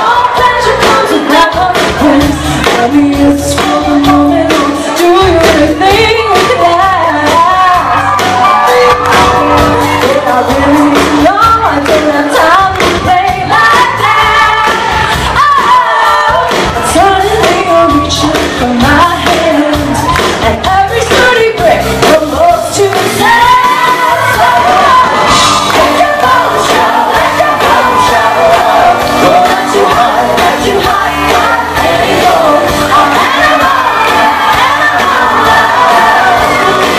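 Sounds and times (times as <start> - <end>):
drums keeping steady beat: 0.0 - 36.9
live pop-rock band: 0.0 - 36.9
woman singing lead vocals: 0.0 - 36.9.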